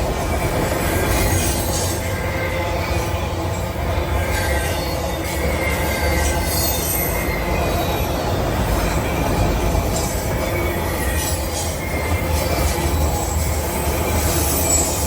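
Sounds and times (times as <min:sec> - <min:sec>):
faint high wheel squeal: 0:00.0 - 0:15.0
freight train wheels rumbling: 0:00.0 - 0:15.0.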